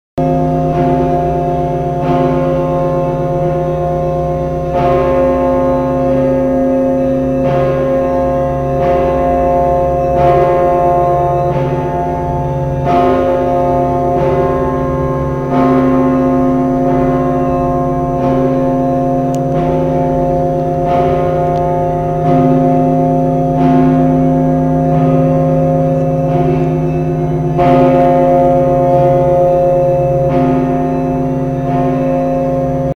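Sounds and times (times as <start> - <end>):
church bells ringing: 0.2 - 32.9.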